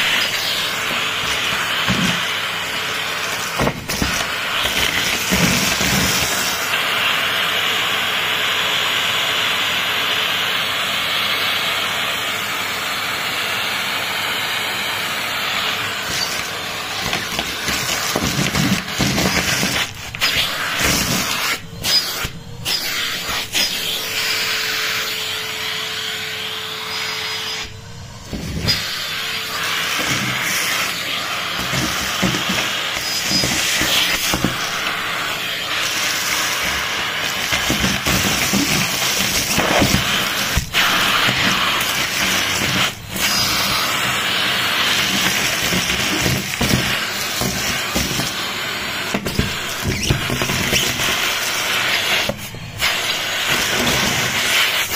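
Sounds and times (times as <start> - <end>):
vacuum cleaner sucking over carpet: 0.0 - 54.9.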